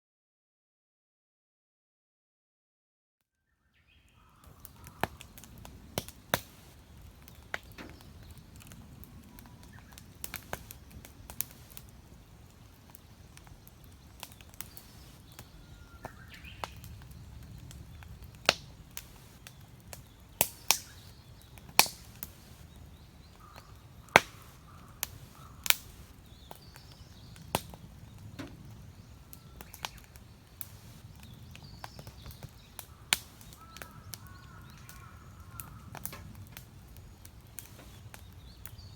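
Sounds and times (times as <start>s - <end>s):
small birds chirping: 3.4s - 38.9s
campfire crackling and popping: 4.0s - 38.9s.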